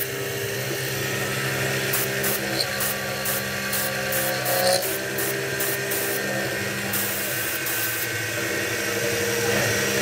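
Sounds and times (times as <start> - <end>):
milling spindle humming: 0.0 - 10.0.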